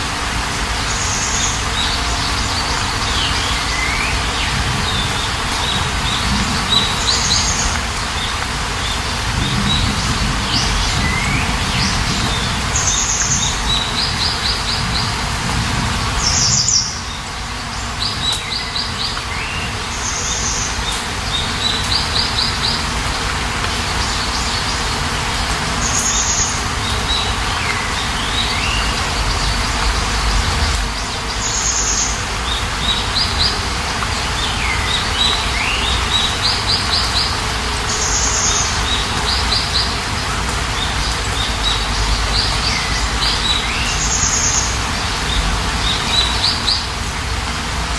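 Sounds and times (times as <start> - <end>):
rain hiss: 0.0 - 47.9
songbirds chirping: 0.0 - 47.9.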